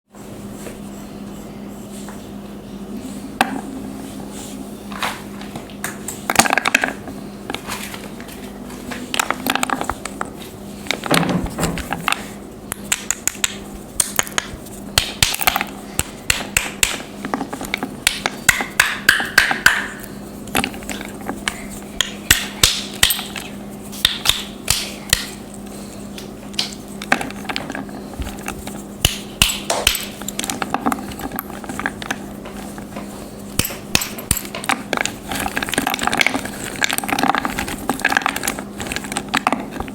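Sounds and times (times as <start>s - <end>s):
faint steady hum: 0.2s - 39.9s.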